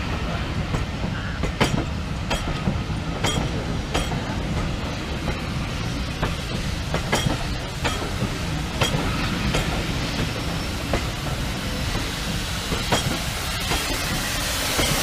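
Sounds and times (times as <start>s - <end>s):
train rumbling: 0.0s - 15.0s
wheels clicking over rail joints: 0.6s - 15.0s.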